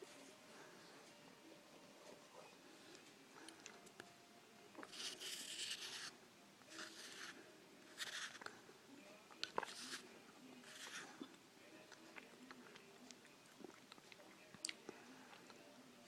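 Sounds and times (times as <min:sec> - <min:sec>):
faint crunching chewing: 0:02.0 - 0:15.8.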